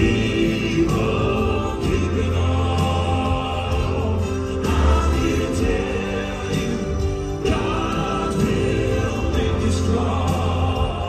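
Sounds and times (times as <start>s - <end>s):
bass guitar: 0.0s - 11.0s
keyboard: 0.0s - 11.0s
male quartet singing in harmony: 0.0s - 11.0s.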